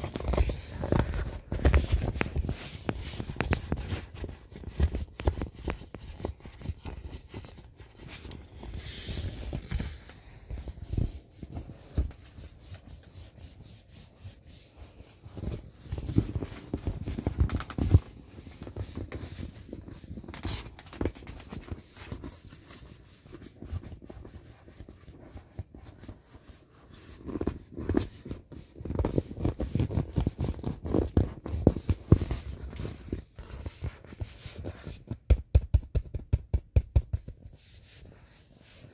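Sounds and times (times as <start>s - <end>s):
hand rubbing inflatable vinyl: 0.0s - 38.9s.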